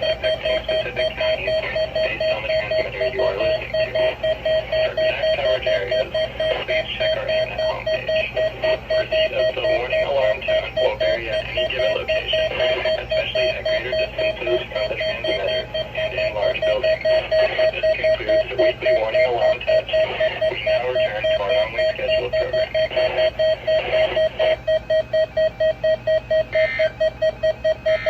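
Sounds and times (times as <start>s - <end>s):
electronic alarm beeping: 0.0s - 28.0s.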